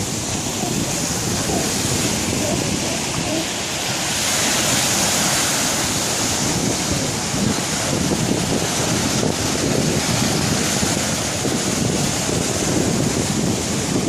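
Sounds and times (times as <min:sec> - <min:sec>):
waves surging: 0:00.0 - 0:14.0
wind buffeting microphone: 0:00.0 - 0:14.0.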